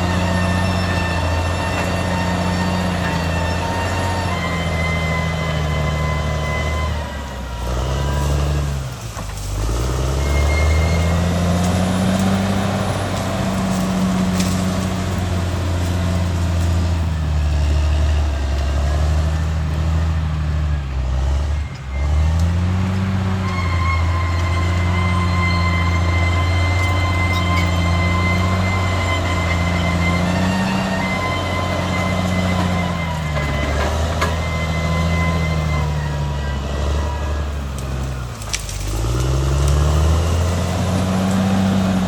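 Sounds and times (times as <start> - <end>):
bulldozer diesel engine working: 0.0 - 42.0.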